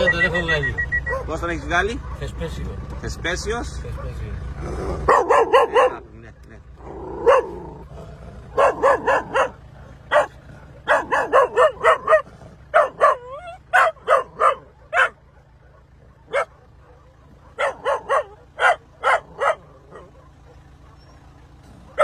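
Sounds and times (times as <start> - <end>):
low engine hum: 0.0 - 22.0
young dog yelping: 0.8 - 3.0, 3.9 - 6.1, 6.8 - 22.0.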